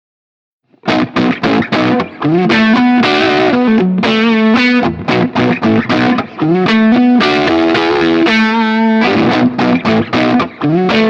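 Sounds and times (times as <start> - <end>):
distorted electric guitar lead: 0.8 - 11.0.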